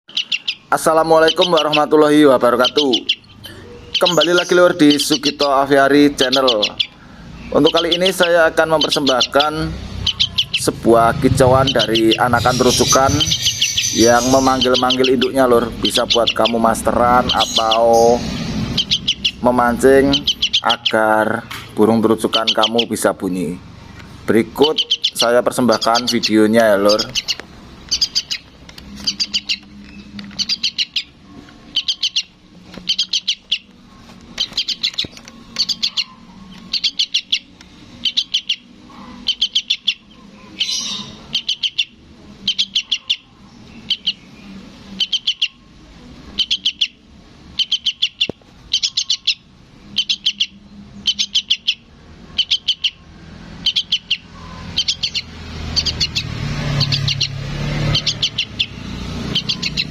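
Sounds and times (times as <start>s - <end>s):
fledgling bird chirping: 0.1s - 59.9s.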